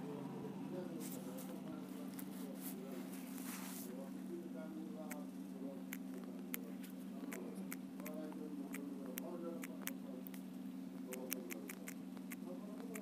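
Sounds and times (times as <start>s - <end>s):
electrical hum: 0.0s - 13.0s
faint background voices: 0.0s - 13.0s.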